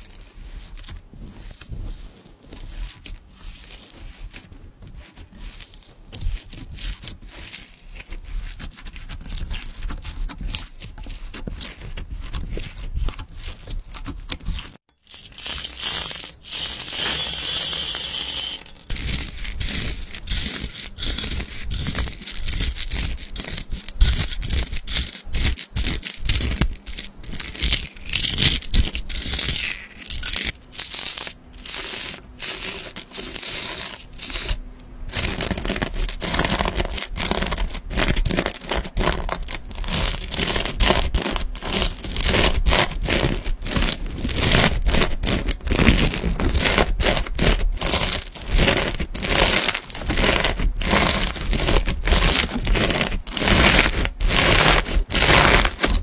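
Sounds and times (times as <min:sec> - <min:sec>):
beads crackling in slime: 0:00.0 - 0:56.0.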